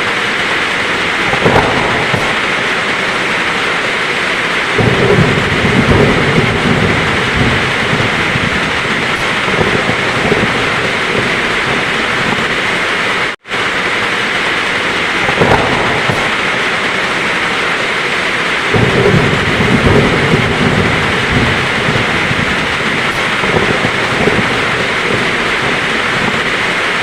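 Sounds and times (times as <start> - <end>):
heavy rain falling: 0.0 - 27.0
thunder rumbling low: 0.0 - 27.0.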